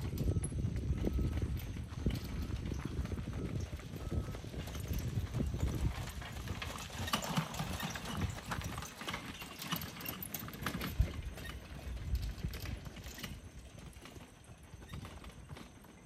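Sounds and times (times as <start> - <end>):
hoofbeats on gravel: 0.0 - 16.0.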